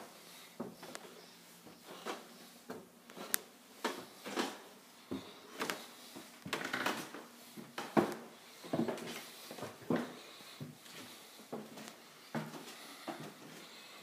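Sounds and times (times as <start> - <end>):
footsteps on wooden stairs: 0.6 - 13.6.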